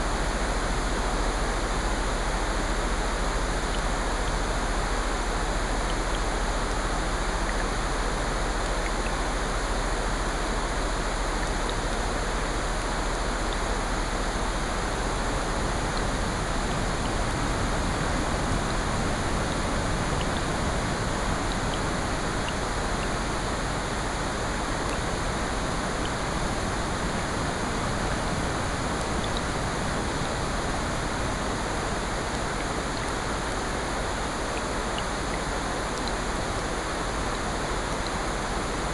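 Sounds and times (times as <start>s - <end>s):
rain: 0.0s - 38.9s.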